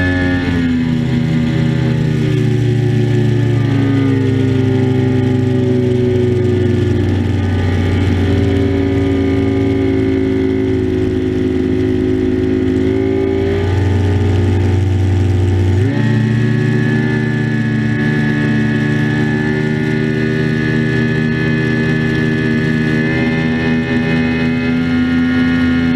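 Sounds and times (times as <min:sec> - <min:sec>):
outboard motor running: 0:00.0 - 0:25.9.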